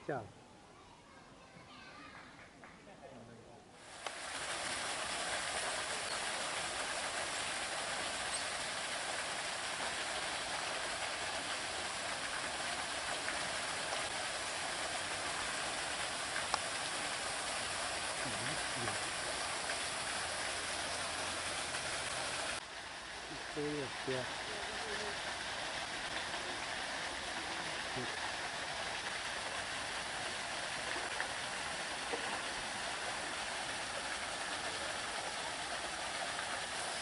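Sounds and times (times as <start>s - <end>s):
steady rushing hiss: 3.8s - 37.0s.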